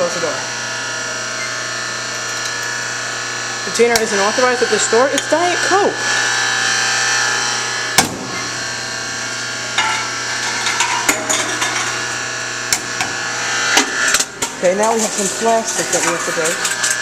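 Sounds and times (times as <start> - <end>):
vending machine humming: 0.0 - 17.0.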